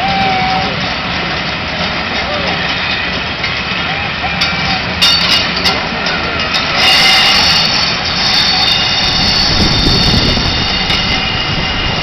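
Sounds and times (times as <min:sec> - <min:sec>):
steam escaping: 0:00.1 - 0:12.0.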